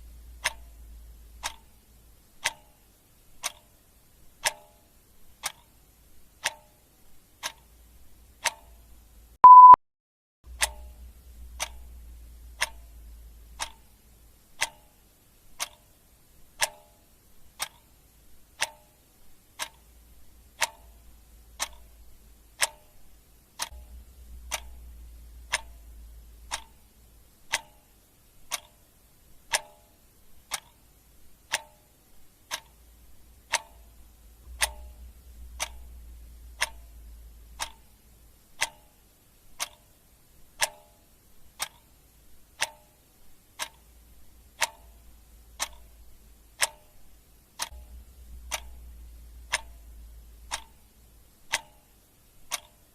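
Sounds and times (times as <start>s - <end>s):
clock ticking: 0.0s - 9.8s, 10.5s - 52.9s.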